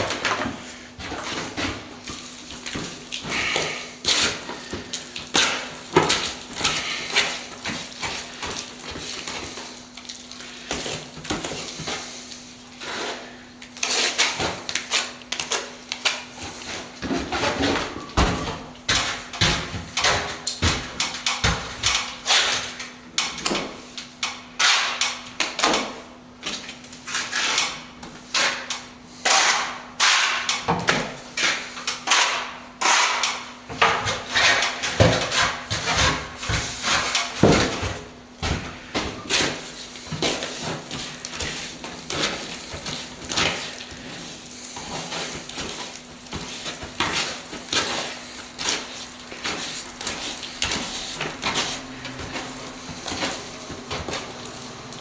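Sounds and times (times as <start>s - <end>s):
trowel scraping and slapping render: 0.0s - 55.0s.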